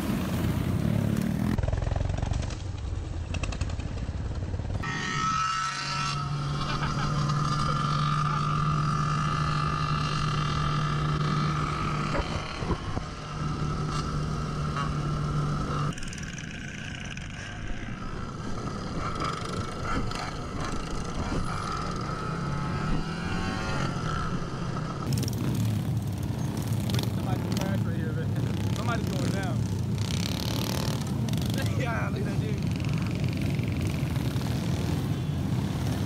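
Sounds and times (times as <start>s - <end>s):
mini bike engine revving: 4.8s - 36.0s.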